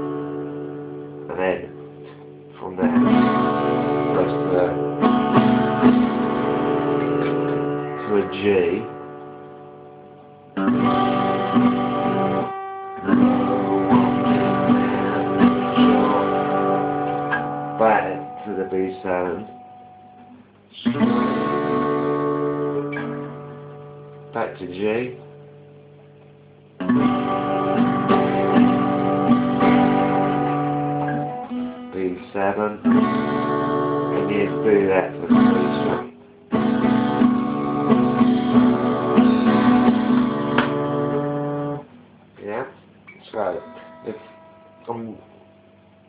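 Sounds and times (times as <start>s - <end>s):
guitar strumming: 0.0s - 46.0s.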